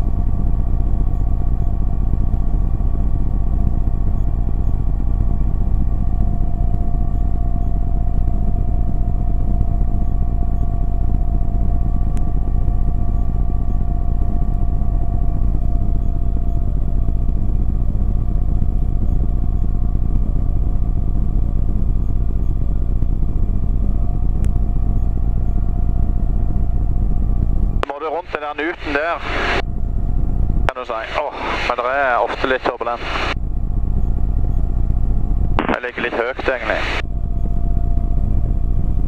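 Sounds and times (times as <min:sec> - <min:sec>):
microlight engine and propeller: 0:00.0 - 0:39.0.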